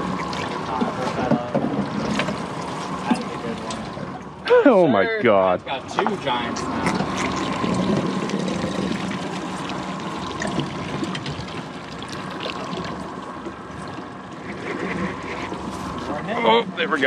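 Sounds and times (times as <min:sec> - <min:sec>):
water splashing against boat hull: 0:00.0 - 0:04.4, 0:06.7 - 0:16.9
steady low hum: 0:00.0 - 0:17.0.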